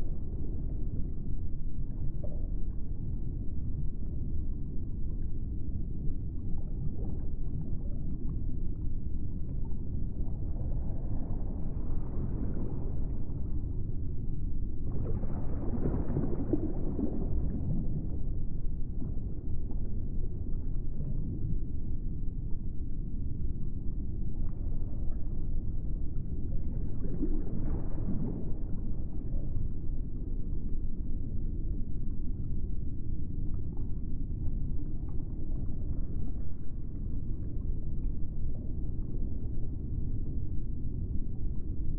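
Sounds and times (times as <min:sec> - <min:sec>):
ambient low rumble: 0:00.0 - 0:41.9.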